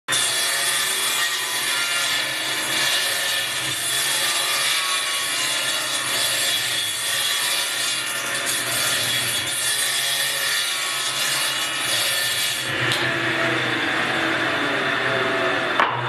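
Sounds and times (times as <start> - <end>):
table saw cutting wood: 0.1 - 16.0.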